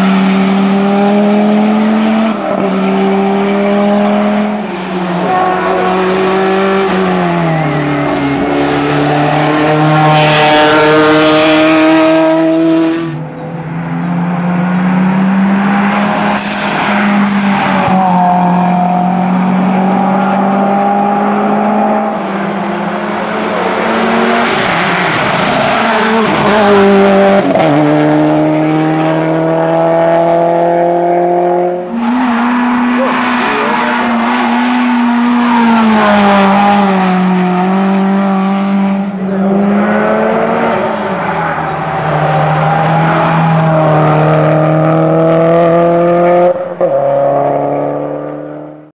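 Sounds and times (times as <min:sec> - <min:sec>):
race car engines at high revs: 0:00.0 - 0:48.9.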